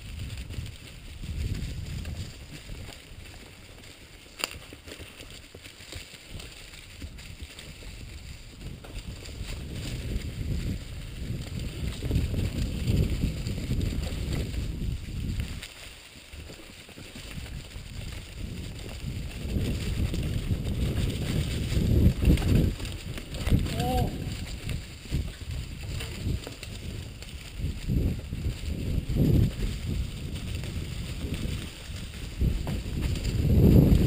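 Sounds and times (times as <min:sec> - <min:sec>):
bike rattling: 0:00.0 - 0:34.0
bike tyres rumbling on dirt: 0:00.0 - 0:34.0
dry leaves crunching: 0:00.0 - 0:34.0.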